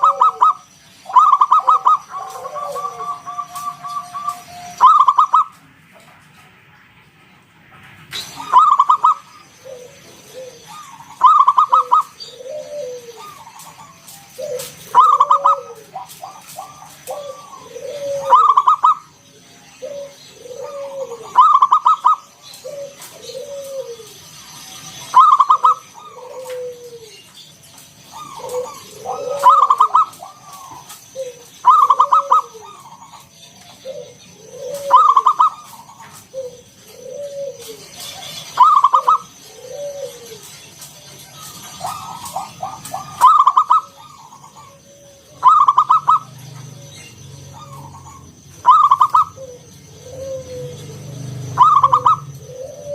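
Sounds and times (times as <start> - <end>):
dove cooing: 0.0 - 5.6, 8.2 - 52.9.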